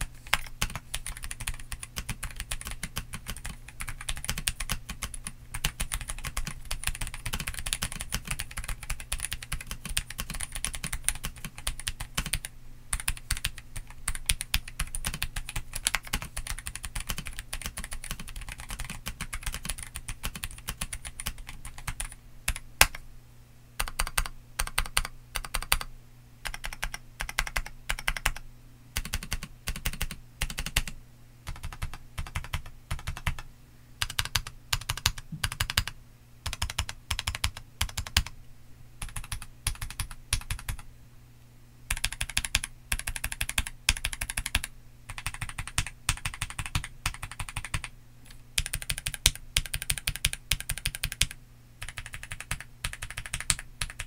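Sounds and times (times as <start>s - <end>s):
mechanical keyboard typing: 0.0s - 23.0s, 23.8s - 28.4s, 29.0s - 38.3s, 39.0s - 40.8s, 41.9s - 47.9s, 48.6s - 54.0s
faint low hum: 0.0s - 54.0s.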